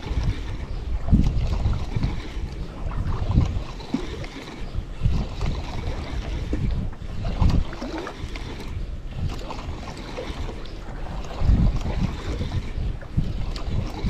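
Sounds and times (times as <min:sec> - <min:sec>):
sea noise: 0:00.0 - 0:14.0
wind buffeting microphone: 0:00.0 - 0:14.0.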